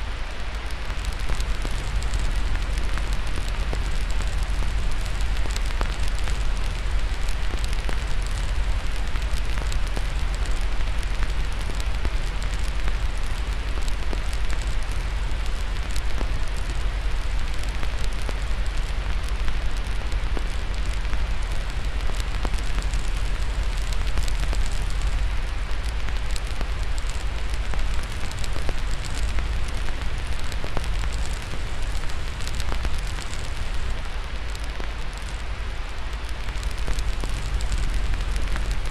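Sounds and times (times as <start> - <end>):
fire crackling: 0.0 - 38.9
white-noise hiss: 0.0 - 38.9.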